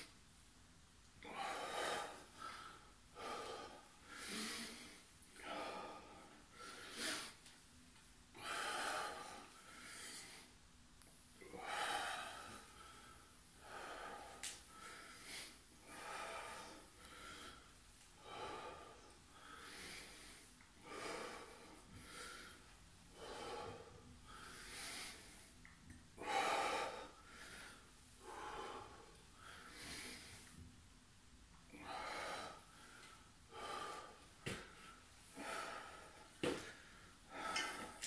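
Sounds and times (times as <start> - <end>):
man breathing hard: 1.2 - 7.5, 8.3 - 10.6, 11.4 - 30.6, 31.7 - 38.0.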